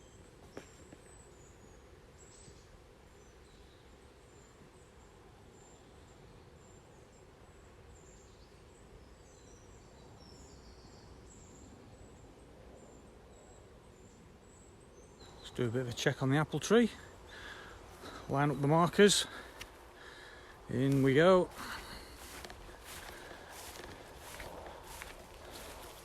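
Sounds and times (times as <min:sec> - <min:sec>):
faint bird chirps: 0:00.0 - 0:26.0
steady low hiss: 0:00.0 - 0:26.0.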